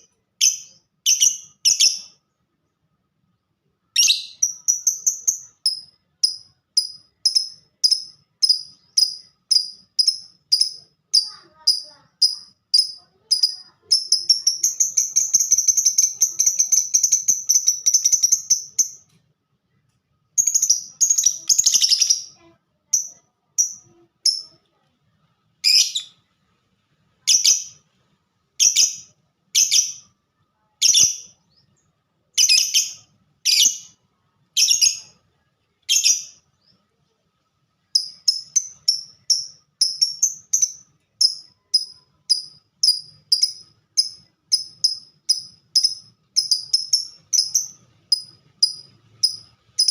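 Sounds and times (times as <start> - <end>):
lovebird chirping: 0.0 - 2.4, 3.8 - 19.2, 20.4 - 24.6, 25.6 - 26.4, 27.2 - 28.0, 28.6 - 37.2, 37.8 - 49.9.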